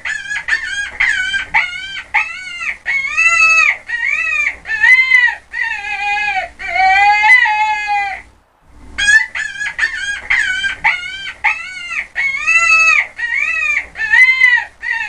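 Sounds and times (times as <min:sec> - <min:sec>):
rabbit squealing: 0:00.0 - 0:08.3, 0:09.0 - 0:15.0.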